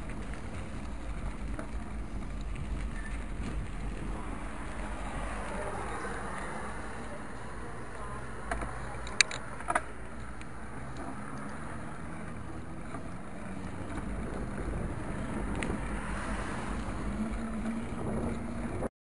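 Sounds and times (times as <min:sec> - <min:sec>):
wind buffeting microphone: 0:00.0 - 0:09.2, 0:12.0 - 0:18.9
bicycle tyres rumbling on asphalt: 0:00.0 - 0:18.9.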